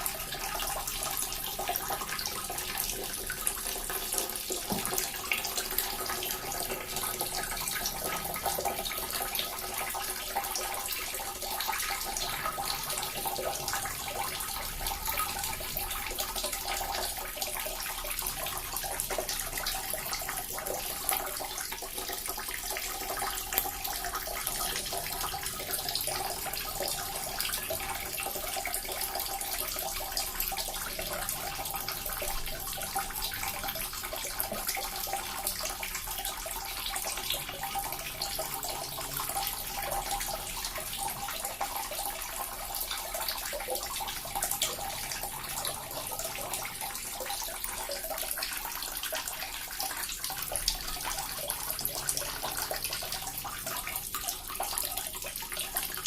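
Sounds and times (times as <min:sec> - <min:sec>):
fountain water trickling and splashing: 0:00.0 - 0:56.0.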